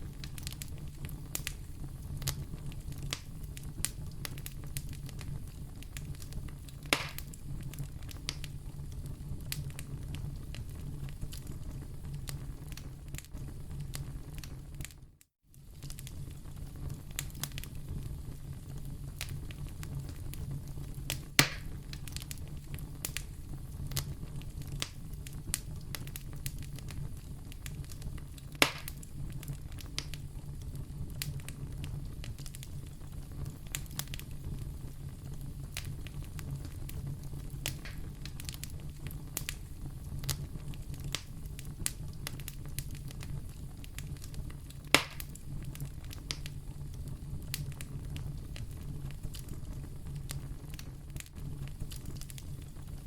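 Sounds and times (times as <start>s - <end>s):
fire pops: 0.0s - 53.0s
wood fire crackling: 0.0s - 53.0s.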